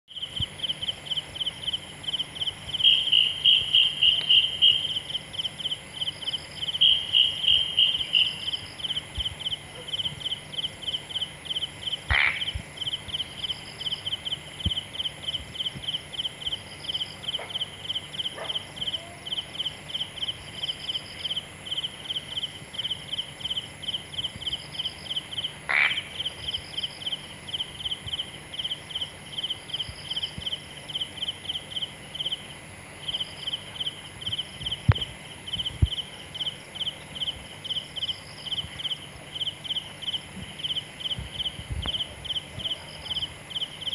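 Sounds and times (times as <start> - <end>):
night insects chirping: 0.1 - 43.9
high steady hiss: 0.2 - 43.9.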